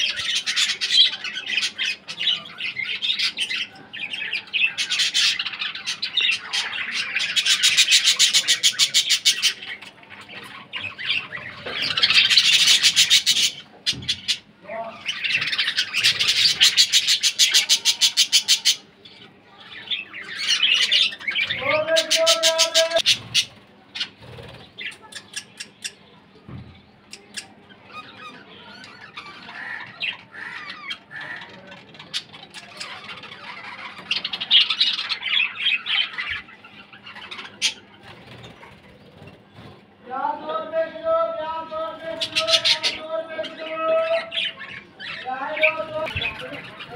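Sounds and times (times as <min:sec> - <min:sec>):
budgerigars squawking and chattering: 0:00.0 - 0:26.2, 0:26.8 - 0:39.8, 0:41.9 - 0:46.9.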